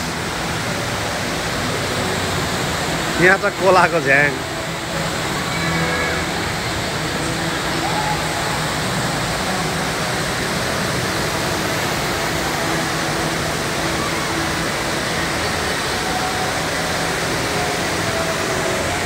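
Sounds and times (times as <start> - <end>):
indoor waterfall rushing: 0.0 - 19.0.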